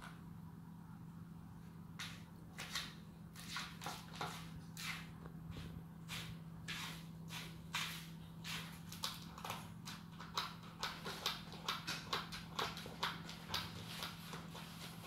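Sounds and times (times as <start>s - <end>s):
cat scratching litter: 2.0s - 15.0s.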